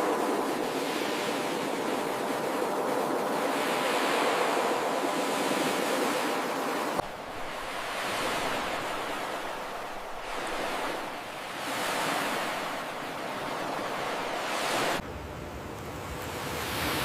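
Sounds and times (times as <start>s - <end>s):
ocean waves breaking: 0.0s - 15.0s, 15.7s - 17.0s.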